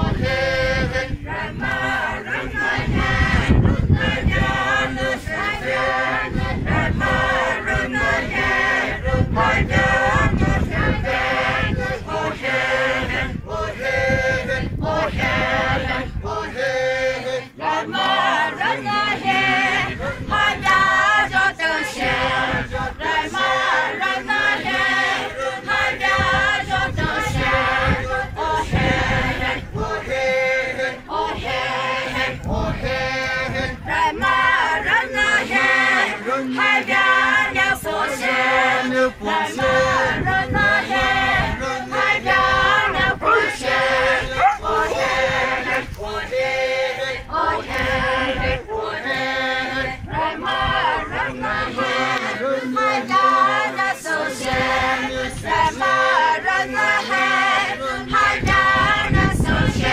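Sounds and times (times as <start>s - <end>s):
group singing a chant: 0.0s - 59.9s.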